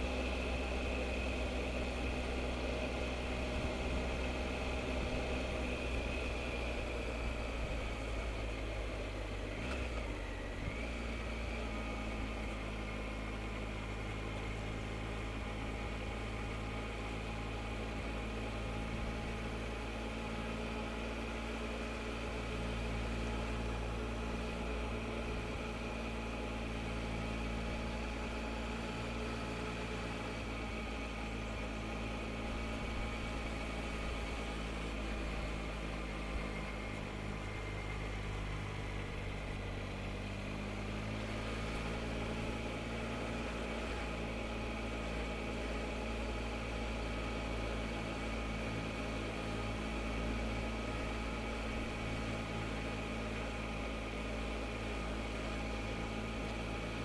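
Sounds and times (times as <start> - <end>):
road and wind rush: 0.0 - 57.0.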